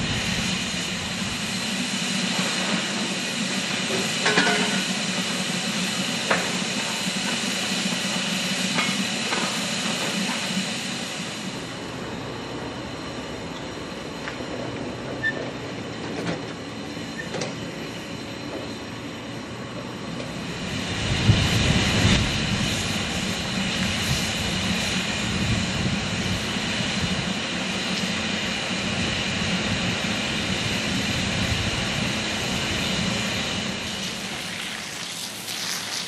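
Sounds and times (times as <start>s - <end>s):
locomotive rumble: 0.0s - 36.0s
steam hissing: 0.0s - 36.0s.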